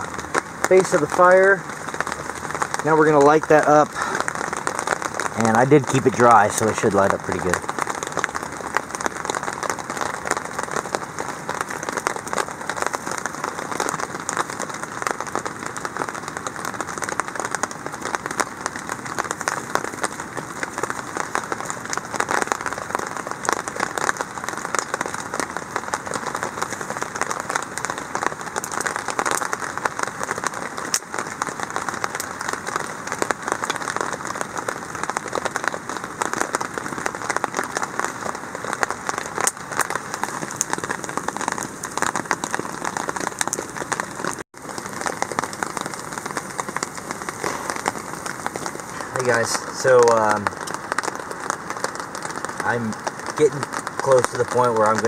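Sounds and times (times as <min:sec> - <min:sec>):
rain falling on a tarp: 0:00.0 - 0:55.0.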